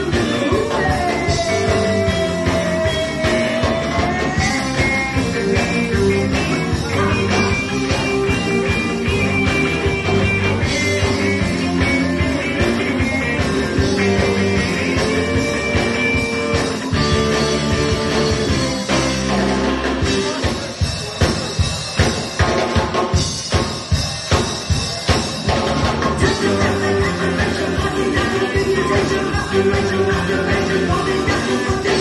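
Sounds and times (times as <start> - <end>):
ska band playing: 0.0 - 32.0.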